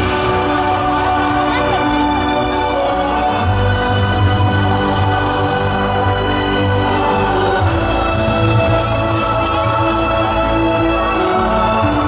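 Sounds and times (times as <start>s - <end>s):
deep bass: 0.0s - 12.0s
music with long held notes: 0.0s - 12.0s.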